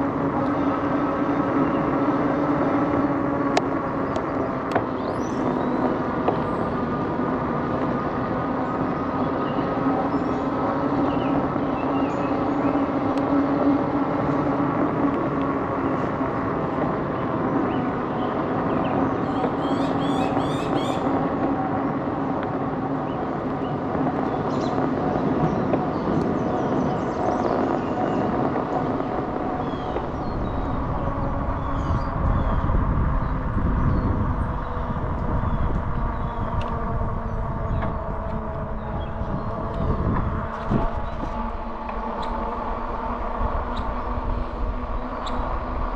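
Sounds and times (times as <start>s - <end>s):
electric bike motor and tyres hum: 0.0s - 45.9s
wind rumble on microphone: 0.0s - 45.9s.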